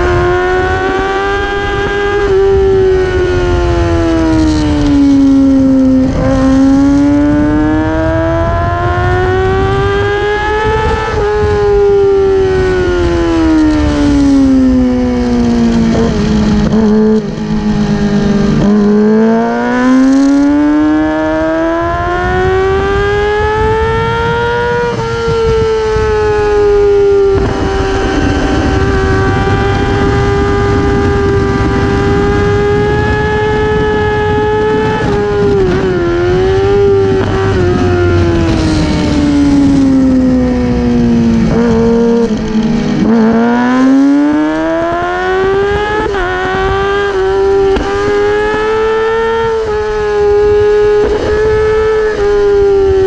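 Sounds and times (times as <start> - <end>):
racing motorcycle engine: 0.0 - 53.0
wind rumble on microphone: 0.0 - 53.0.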